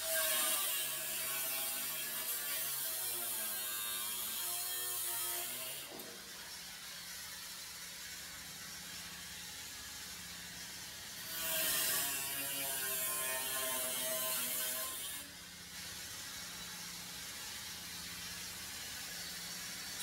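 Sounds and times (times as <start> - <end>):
grinder cutting metal: 0.0 - 20.0.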